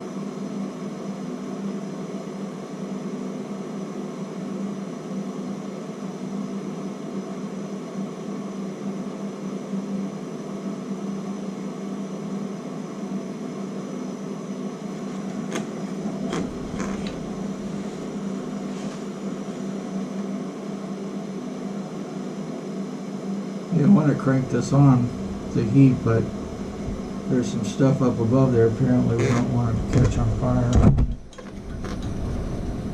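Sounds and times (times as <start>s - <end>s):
heat gun fan humming: 0.0s - 32.9s.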